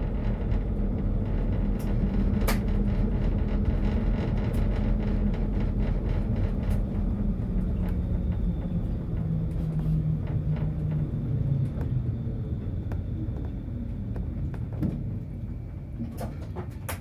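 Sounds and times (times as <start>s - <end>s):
low motor hum: 0.0s - 17.0s
tram rumbling: 0.0s - 17.0s.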